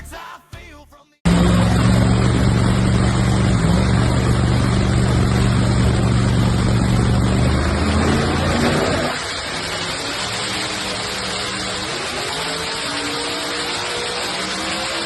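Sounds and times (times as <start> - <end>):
drag car engine idling: 1.3 - 15.0.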